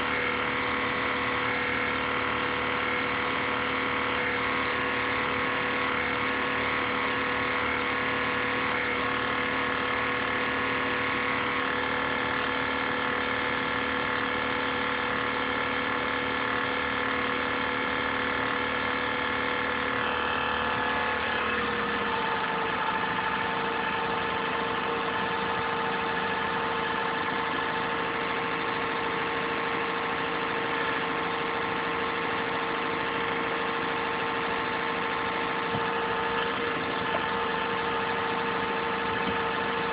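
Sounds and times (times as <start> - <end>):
laptop cooling fan whirring: 0.0 - 39.9.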